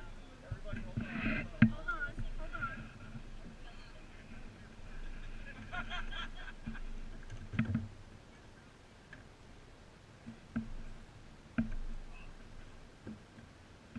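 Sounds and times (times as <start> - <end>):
kayaks and paddles knocking together: 0.0 - 8.4, 9.0 - 9.4, 10.1 - 13.9.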